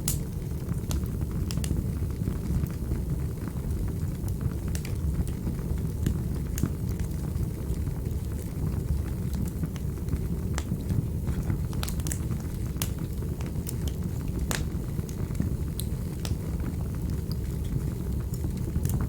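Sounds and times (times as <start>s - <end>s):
fire pops and snaps: 0.0s - 1.8s, 4.2s - 19.0s
fire flames rumbling: 0.0s - 19.0s.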